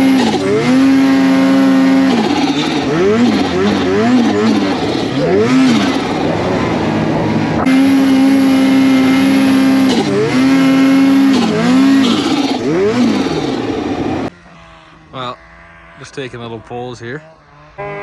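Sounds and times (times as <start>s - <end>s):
snowmobile engine revving: 0.0s - 18.0s.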